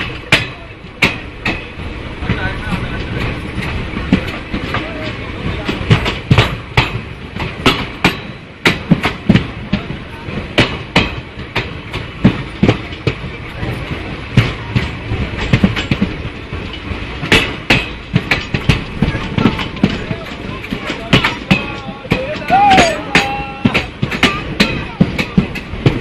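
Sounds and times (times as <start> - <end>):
train rumble: 0.0 - 26.0
train wheels clacking over rail joints: 0.0 - 26.0.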